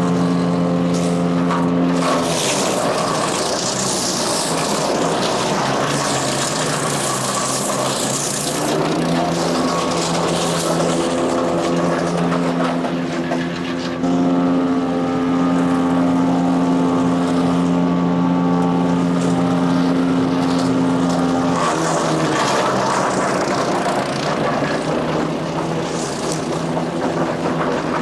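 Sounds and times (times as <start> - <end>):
chipper grinding material: 0.0 - 28.0
engine running steadily: 0.0 - 28.0.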